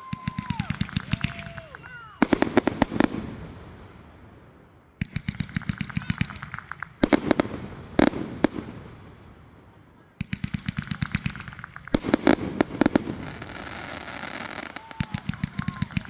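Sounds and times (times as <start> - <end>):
fireworks crackling pops: 0.0 - 16.0
fireworks loud bangs: 0.0 - 16.0.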